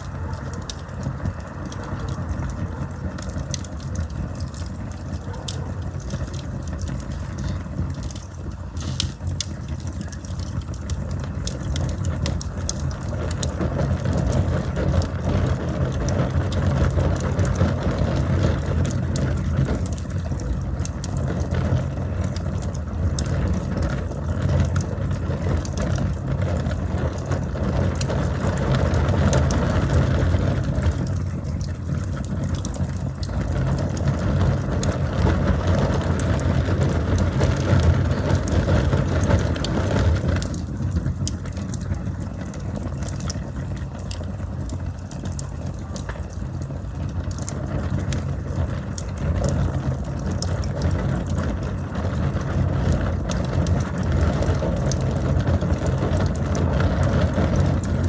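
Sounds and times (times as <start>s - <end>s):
burning wood crackling and popping: 0.0s - 58.0s
low rumble of flames: 0.0s - 58.0s.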